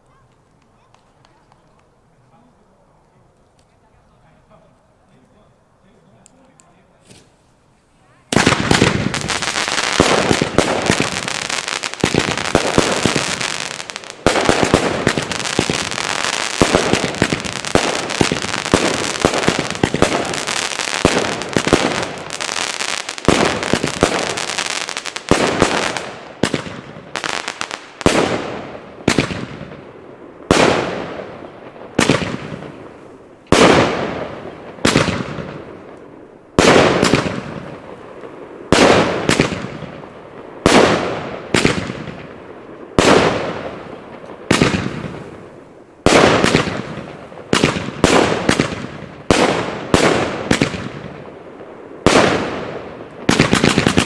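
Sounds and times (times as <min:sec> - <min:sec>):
firework barrage bangs and crackle: 0:08.1 - 0:54.0
single loud firework reports: 0:08.3 - 0:54.0.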